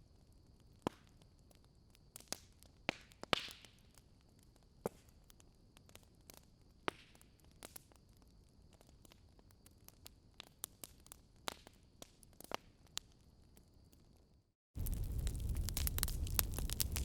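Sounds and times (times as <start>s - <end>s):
wood fire crackling: 0.5s - 14.1s, 14.8s - 17.0s.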